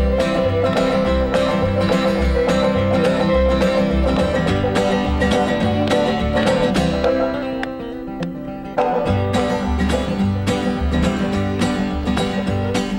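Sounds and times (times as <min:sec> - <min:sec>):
bluegrass banjo and guitar music: 0:00.0 - 0:12.9.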